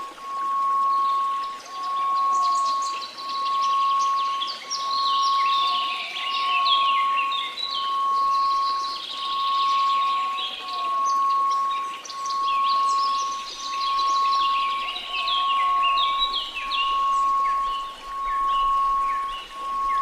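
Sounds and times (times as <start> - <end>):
small birds chirping: 0.0 - 20.0
steady pure tone: 0.0 - 20.0
white noise hiss: 0.0 - 20.0.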